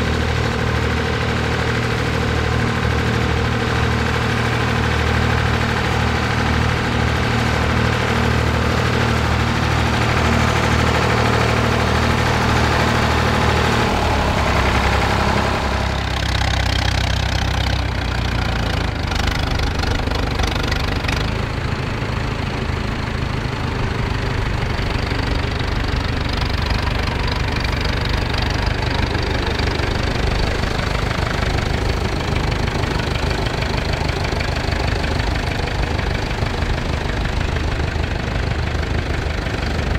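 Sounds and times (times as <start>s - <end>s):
tractor engine knocking: 0.0s - 39.9s
tractor engine running under load: 0.0s - 39.9s.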